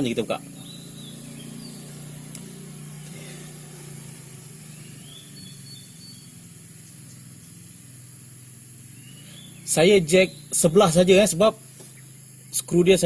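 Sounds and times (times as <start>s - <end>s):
faint bird chirps: 0.0s - 13.0s
low outdoor hum: 0.0s - 13.0s.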